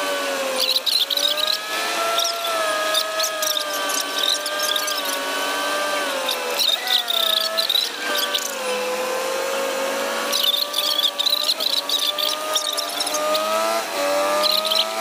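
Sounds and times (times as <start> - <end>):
truck mechanical whine: 0.0 - 15.0
cab rattling: 0.6 - 8.9, 10.2 - 15.0.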